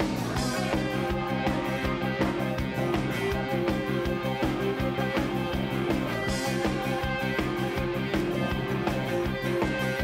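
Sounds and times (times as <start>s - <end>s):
drums playing steady beat: 0.0s - 10.0s
electric guitar: 0.0s - 10.0s.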